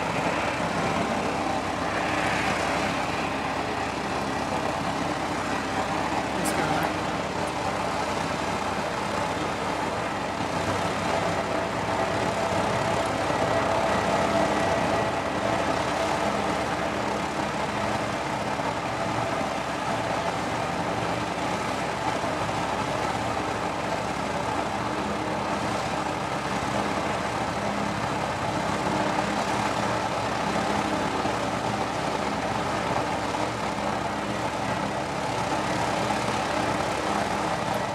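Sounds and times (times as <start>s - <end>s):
turboprop engines droning: 0.0s - 37.9s.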